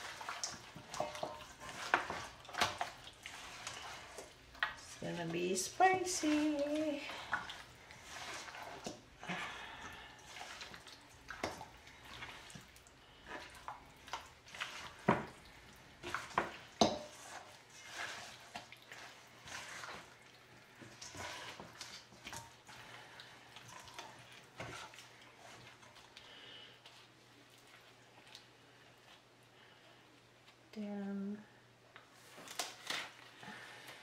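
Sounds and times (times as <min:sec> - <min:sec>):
wet squelching of marinated meat: 0:00.0 - 0:30.4.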